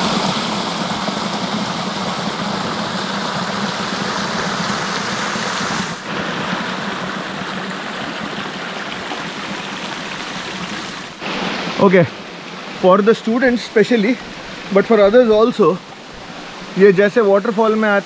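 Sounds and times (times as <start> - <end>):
water rushing over rocks: 0.0 - 18.0.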